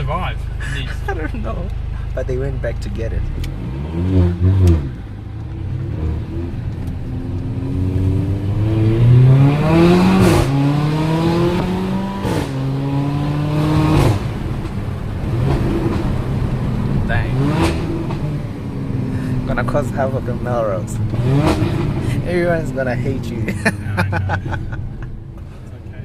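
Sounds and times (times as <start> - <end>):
car engine accelerating: 0.0 - 26.0
exhaust cracks: 0.0 - 26.0.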